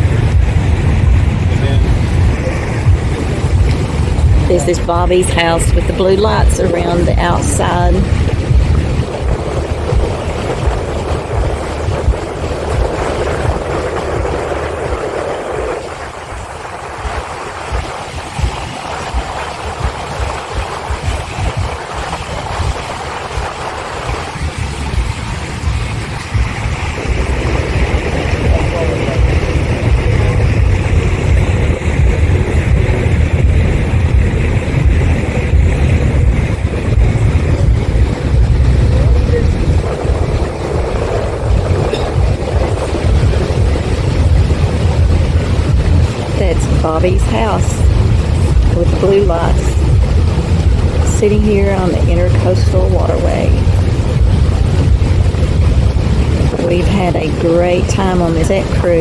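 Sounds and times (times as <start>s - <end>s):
boat motor running: 0.0s - 59.0s
rushing water: 0.0s - 59.0s
wind buffeting microphone: 0.0s - 59.0s.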